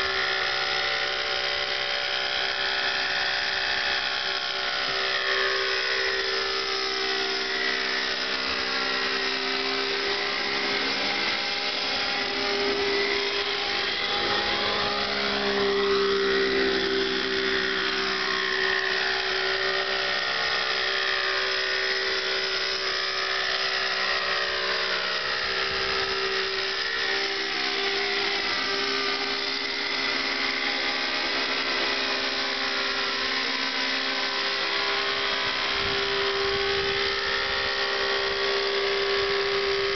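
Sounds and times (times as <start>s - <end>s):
model helicopter engine: 0.0s - 39.9s
rotor whine: 0.0s - 39.9s.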